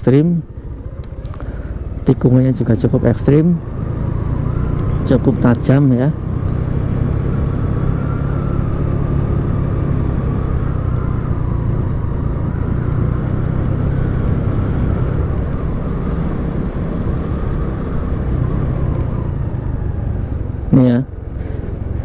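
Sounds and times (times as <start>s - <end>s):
road noise: 0.0s - 22.0s
motorcycle engine running: 0.3s - 22.0s.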